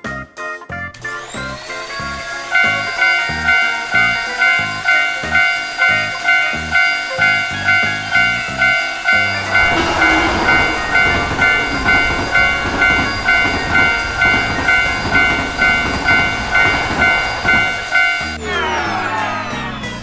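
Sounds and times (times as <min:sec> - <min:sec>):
railroad crossing bell ringing: 0:01.8 - 0:19.6
train passing: 0:02.4 - 0:19.7.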